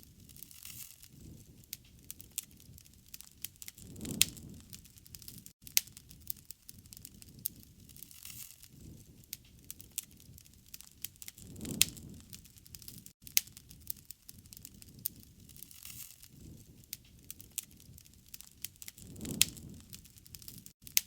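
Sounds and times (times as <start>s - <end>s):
low rumble of flames: 0.0s - 20.8s
sharp pops from fire: 0.0s - 21.0s
wood fire crackling: 0.0s - 21.0s.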